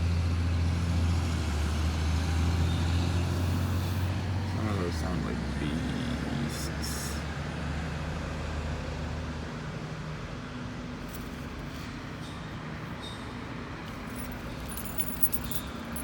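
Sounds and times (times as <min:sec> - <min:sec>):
garbage truck diesel engine: 0:00.0 - 0:14.7.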